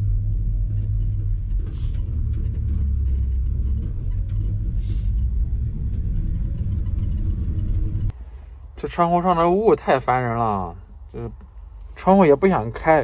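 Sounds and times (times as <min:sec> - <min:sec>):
vehicle road and running noise: 0:00.0 - 0:13.0.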